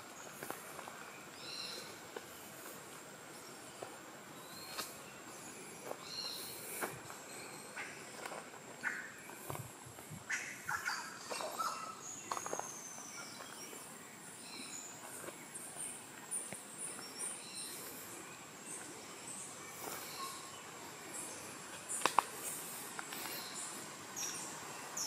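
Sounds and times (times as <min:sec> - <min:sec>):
birds chirping and whistling: 0:03.4 - 0:09.6, 0:10.3 - 0:25.0.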